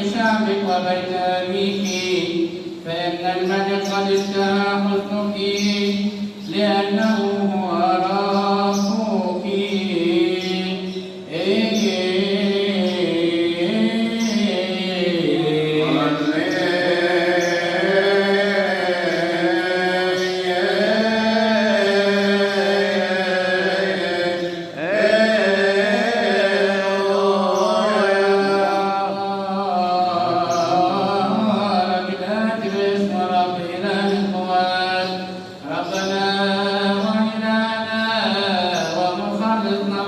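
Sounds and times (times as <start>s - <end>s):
man chanting a hymn: 0.0s - 40.0s.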